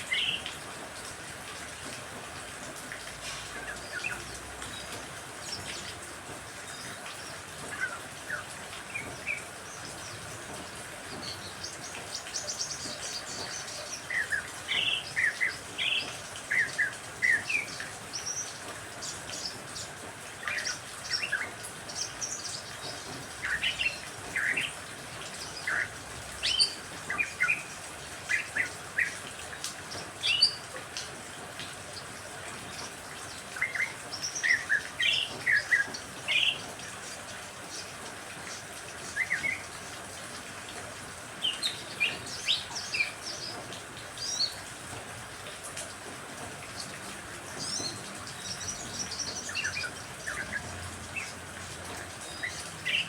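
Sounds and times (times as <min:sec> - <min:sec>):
rain hissing: 0:00.0 - 0:53.0
songbirds chirping and trilling: 0:03.0 - 0:53.0.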